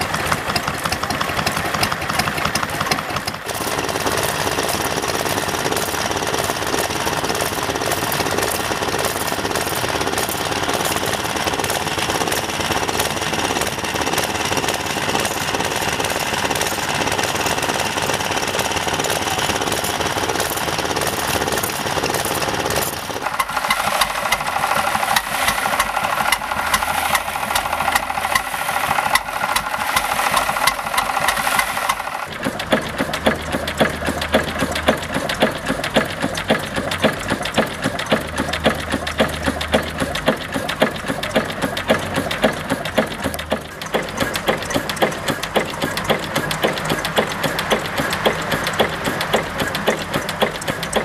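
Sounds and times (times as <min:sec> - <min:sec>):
small engine fast knock: 0:00.0 - 0:51.0
stationary engine steady beat: 0:00.0 - 0:51.0.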